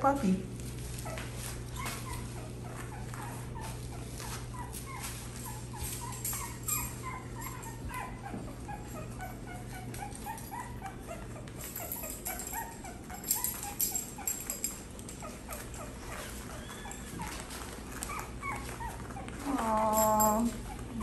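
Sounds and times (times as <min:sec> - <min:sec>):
puppies squeaking and whimpering: 0:00.8 - 0:21.0.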